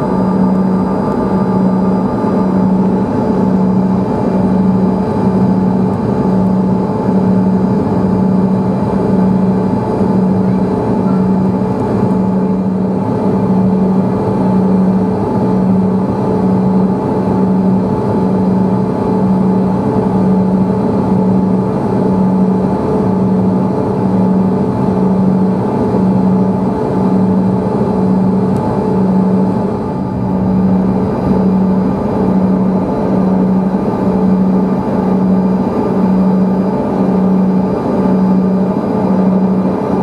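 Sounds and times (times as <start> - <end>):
jet engines running: 0.0 - 40.0.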